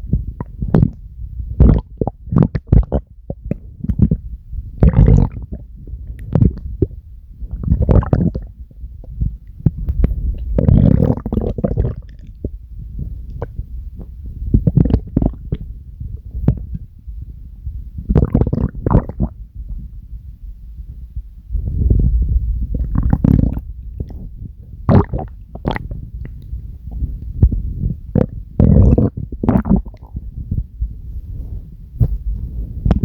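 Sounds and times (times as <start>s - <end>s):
stomach growling and gurgling: 0.0s - 20.3s, 21.6s - 33.0s.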